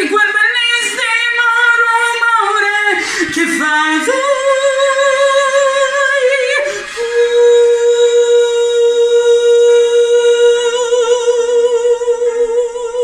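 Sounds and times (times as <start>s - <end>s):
woman singing a ballad: 0.0s - 13.0s.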